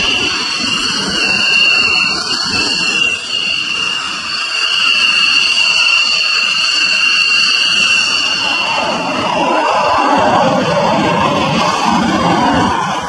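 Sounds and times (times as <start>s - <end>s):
jet engines whining and roaring: 0.0s - 13.0s.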